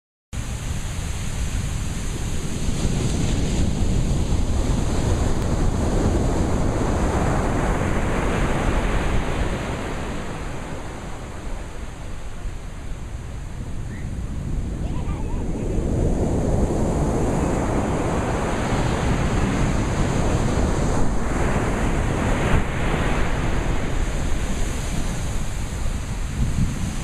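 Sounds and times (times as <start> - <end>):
sea surf washing on shore: 0.4 - 27.0.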